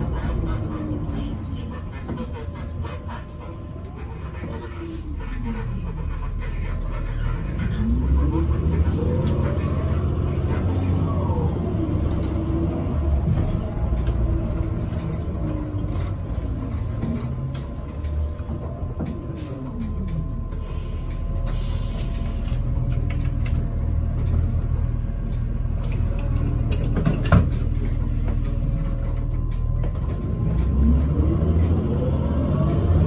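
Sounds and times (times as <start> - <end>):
bus engine running: 0.0 - 33.0
bus body creaks and rattles: 6.3 - 33.0.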